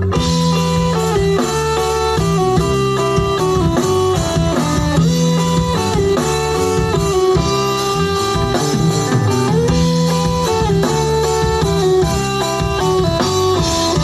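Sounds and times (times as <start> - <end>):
band backing: 0.0 - 14.0
guitars playing sustained chords: 0.0 - 14.0.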